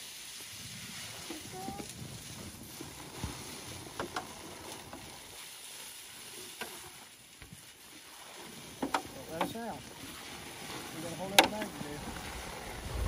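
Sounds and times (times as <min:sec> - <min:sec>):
dry concrete mix pouring: 0:00.0 - 0:13.0.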